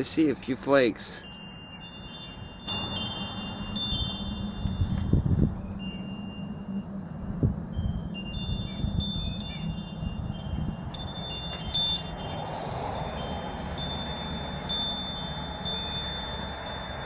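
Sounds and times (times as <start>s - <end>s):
metal wind chimes ringing: 0.0s - 17.0s.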